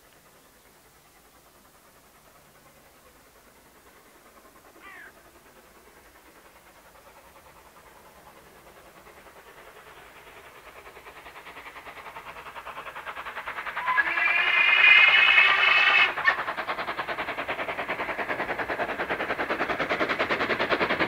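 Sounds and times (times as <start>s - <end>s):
steam locomotive exhaust beats: 0.0s - 21.0s.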